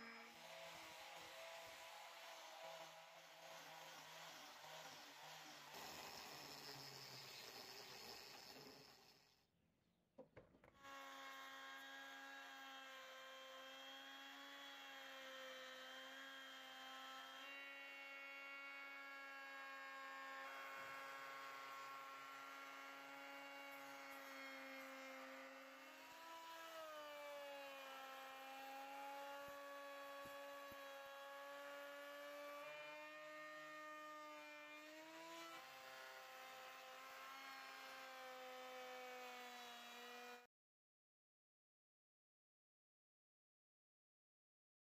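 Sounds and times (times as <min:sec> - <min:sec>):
wood router motor whining: 0:00.0 - 0:09.3, 0:10.6 - 0:40.5.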